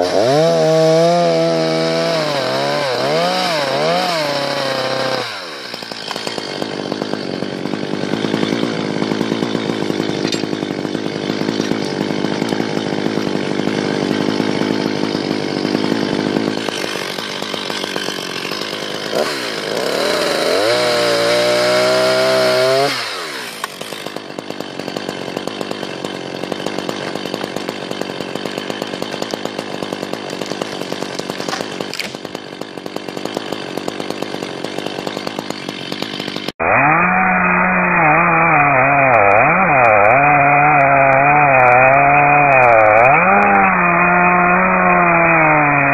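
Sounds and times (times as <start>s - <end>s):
chainsaw cutting through trunk: 0.0s - 45.9s.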